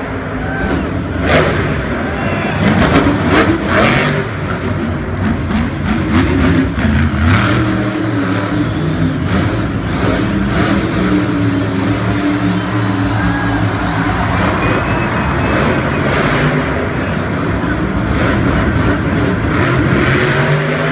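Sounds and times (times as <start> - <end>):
truck engine revving loudly: 0.0 - 20.9.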